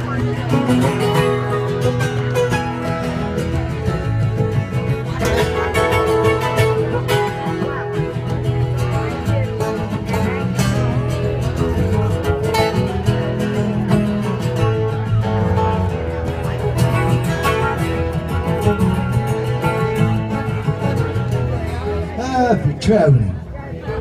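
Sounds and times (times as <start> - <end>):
acoustic guitars playing folk: 0.0 - 24.0.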